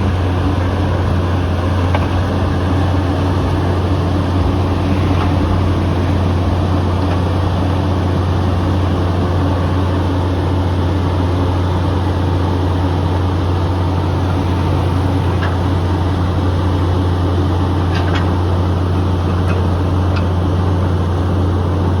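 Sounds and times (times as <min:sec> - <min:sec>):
drilling rig engine drone: 0:00.0 - 0:22.0.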